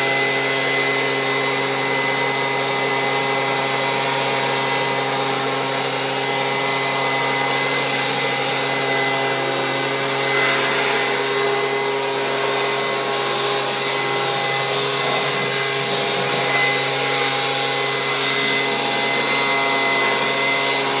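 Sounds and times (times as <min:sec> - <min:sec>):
leaf blower running: 0:00.0 - 0:21.0.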